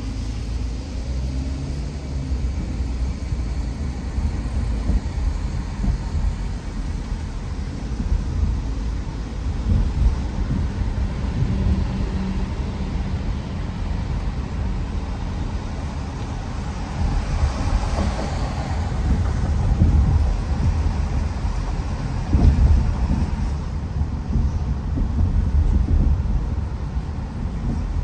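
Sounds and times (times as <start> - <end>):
car tyre and road noise: 0.0 - 28.0.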